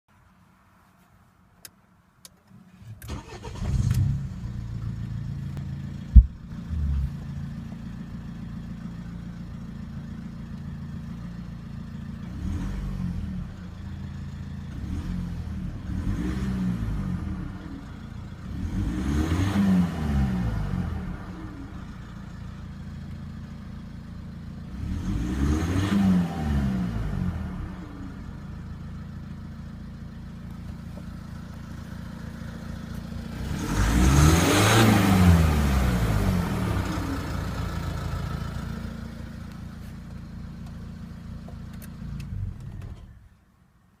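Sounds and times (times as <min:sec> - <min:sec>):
diesel engine idling and revving: 0:02.8 - 0:43.4.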